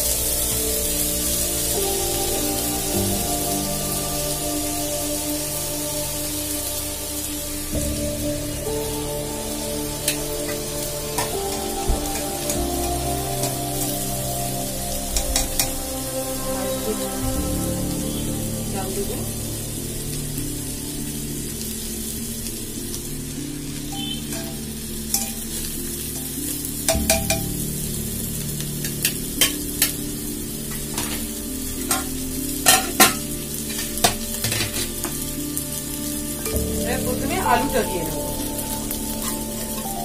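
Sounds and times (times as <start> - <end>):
ghee sizzling: 0.0 - 40.0.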